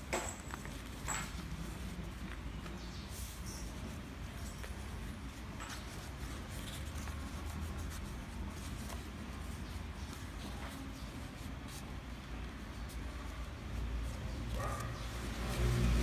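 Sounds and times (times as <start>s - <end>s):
paper being folded: 0.4s - 16.0s.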